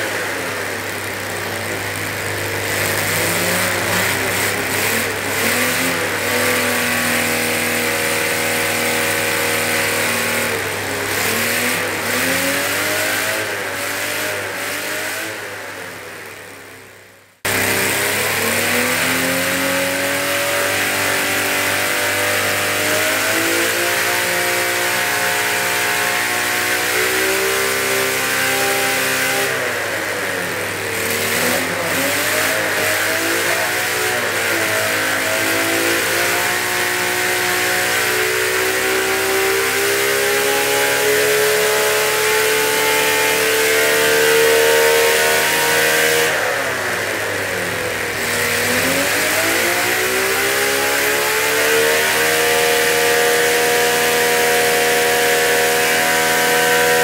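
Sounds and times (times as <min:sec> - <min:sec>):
model engine revving: 0:00.0 - 0:16.8, 0:17.4 - 0:57.0.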